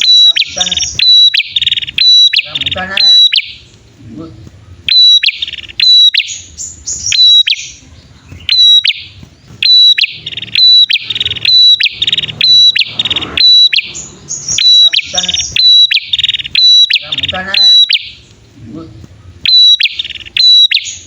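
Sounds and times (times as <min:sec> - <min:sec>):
birds chipping and trilling: 0:00.0 - 0:21.0.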